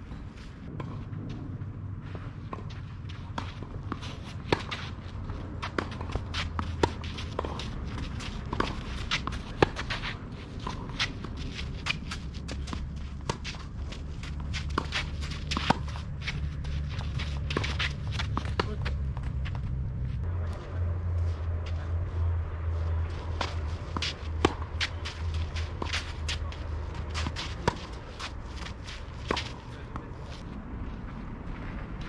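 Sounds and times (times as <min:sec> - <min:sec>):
footsteps on clay court: 0:00.0 - 0:32.0
steady low rumble: 0:00.0 - 0:32.0.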